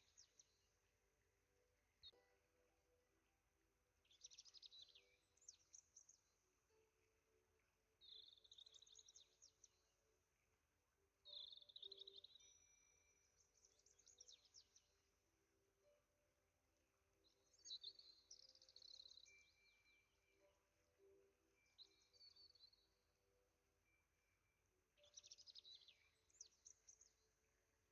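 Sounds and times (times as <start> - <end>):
faint songbirds trilling: 0.0 - 1.0, 4.0 - 15.2, 17.0 - 27.9.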